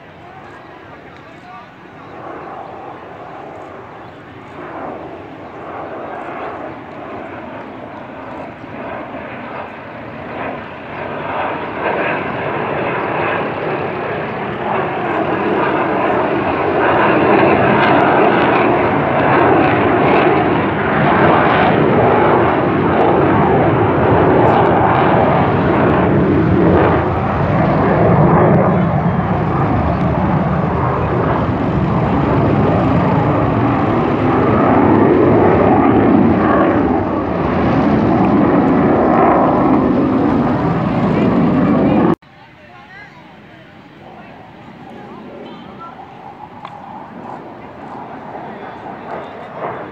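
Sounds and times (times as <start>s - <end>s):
military jet engine roar: 0.0s - 49.9s.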